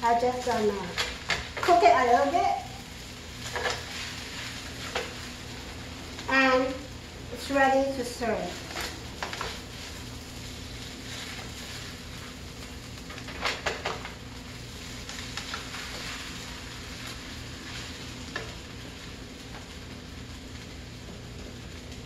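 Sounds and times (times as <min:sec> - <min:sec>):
fried rice sizzling in skillet: 0:00.0 - 0:22.0.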